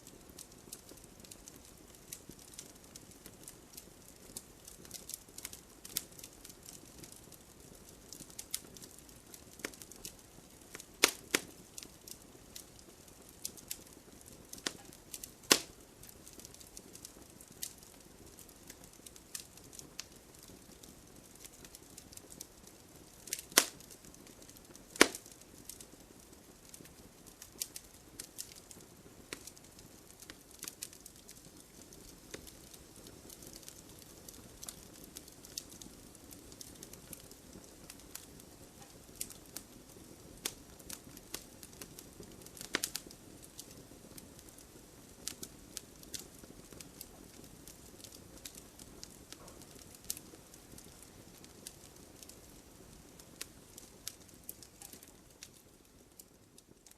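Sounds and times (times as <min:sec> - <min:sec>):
soft hiss of flame: 0:00.0 - 0:56.9
wood fire crackling and popping: 0:00.0 - 0:56.9.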